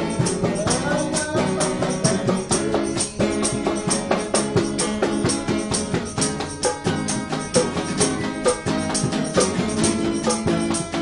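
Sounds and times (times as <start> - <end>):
acoustic guitars strumming: 0.0 - 11.0
plastic bucket hand drum beat: 0.0 - 11.0.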